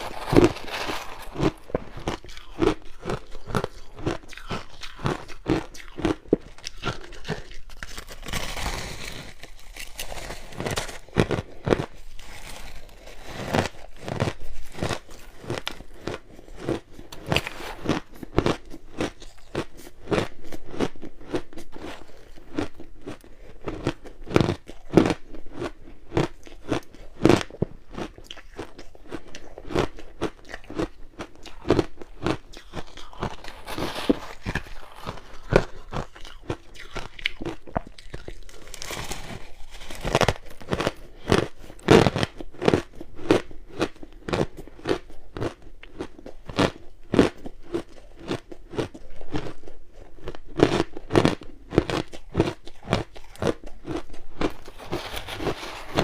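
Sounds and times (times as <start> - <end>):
crunching and chewing ice: 0.0 - 56.0.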